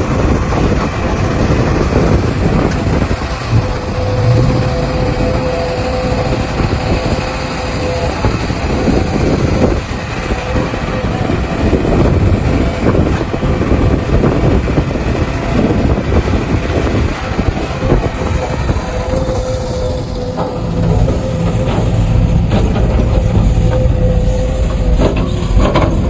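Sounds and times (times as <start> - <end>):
diesel engine under load: 0.0 - 26.0
hydraulic whine: 0.1 - 26.0.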